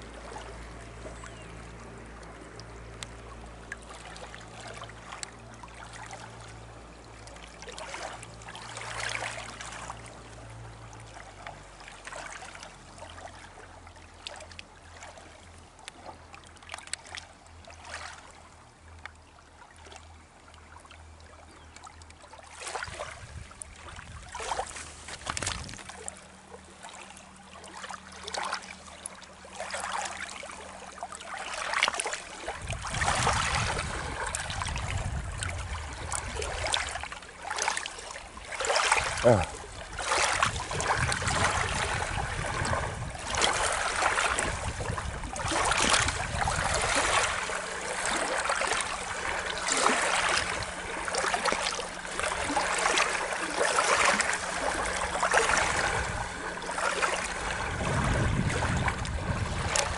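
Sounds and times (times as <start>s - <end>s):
small waves lapping on rocky shore: 0.0s - 59.9s.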